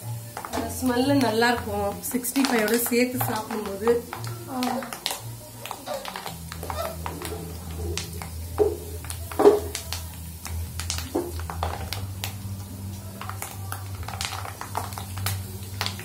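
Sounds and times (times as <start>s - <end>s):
food crackling in hot oil: 0.0s - 16.0s.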